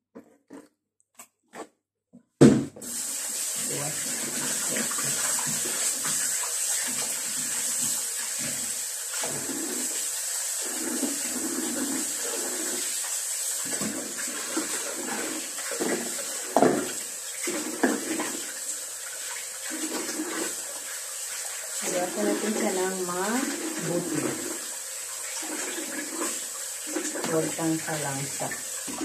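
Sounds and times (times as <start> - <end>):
tap water splashing into sink: 2.4 - 29.0.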